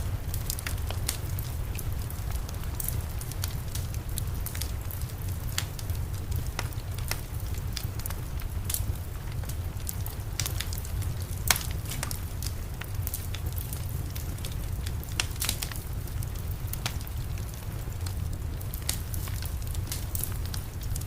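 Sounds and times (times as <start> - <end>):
low fire rumble: 0.0 - 21.0
wood fire crackling: 0.0 - 21.0.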